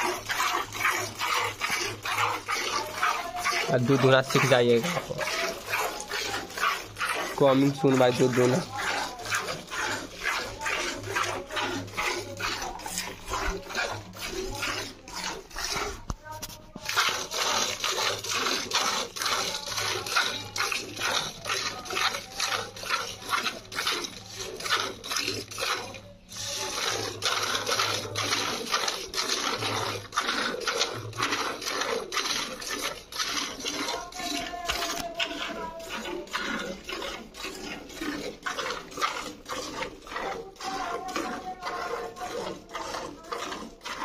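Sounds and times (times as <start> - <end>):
milk squirting into steel bucket: 0.0 - 44.0.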